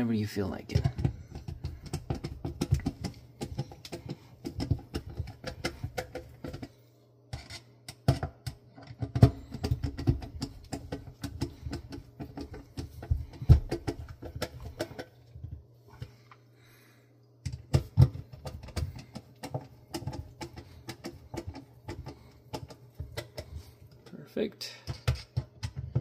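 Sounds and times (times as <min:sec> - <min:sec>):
hand tools clicking and tapping: 0:00.7 - 0:06.7, 0:07.3 - 0:16.2, 0:17.4 - 0:26.0.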